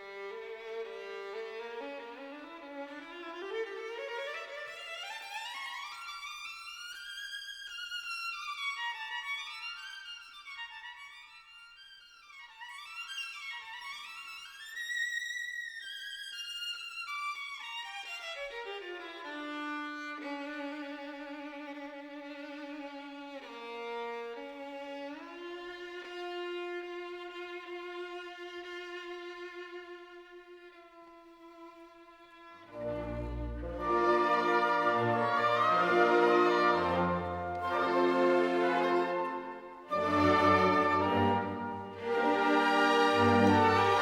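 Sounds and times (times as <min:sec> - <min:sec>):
violin melody: 0:00.0 - 0:44.0.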